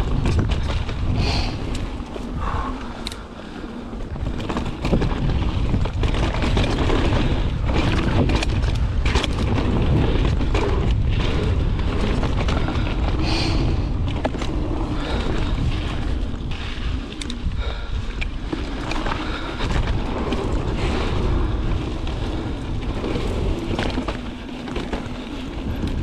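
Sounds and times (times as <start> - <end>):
bike rattling: 0.0 - 26.0
tyres on dirt: 0.0 - 26.0
wind rumbling on microphone: 0.0 - 26.0.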